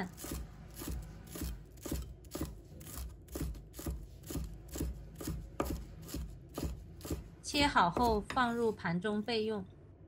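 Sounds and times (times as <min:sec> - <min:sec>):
knife chopping on cutting board: 0:00.0 - 0:08.7.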